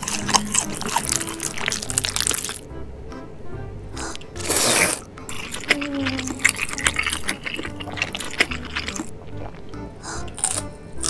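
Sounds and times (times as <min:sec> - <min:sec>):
person slurping noodles: 0:00.0 - 0:02.6, 0:04.0 - 0:10.8
wet chewing: 0:00.0 - 0:02.7, 0:04.0 - 0:11.0.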